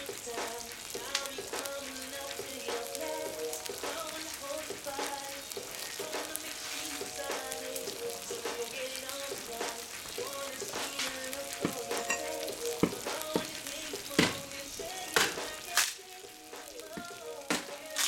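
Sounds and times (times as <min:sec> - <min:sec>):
meat and onions sizzling in oil: 0:00.0 - 0:18.0.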